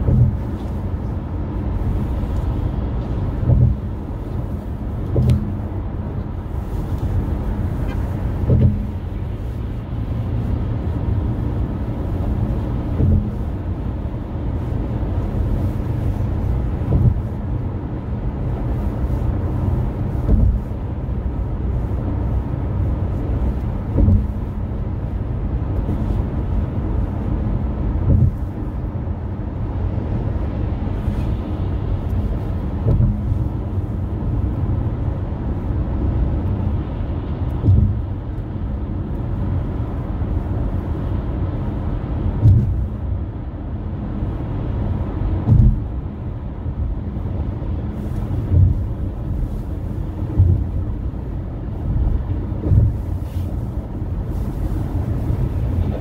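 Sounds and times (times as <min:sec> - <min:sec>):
tyre and engine rumble: 0:00.0 - 0:56.0
wheels thumping over road joints: 0:00.0 - 0:56.0.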